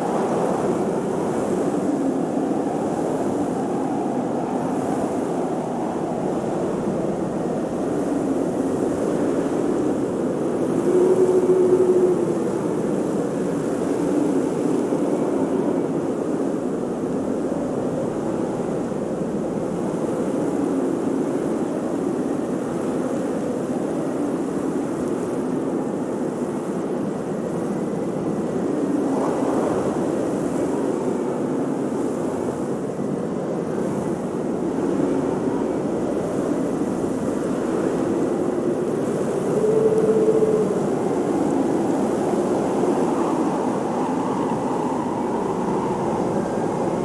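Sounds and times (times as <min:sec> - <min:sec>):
blizzard wind howling: 0:00.0 - 0:47.0.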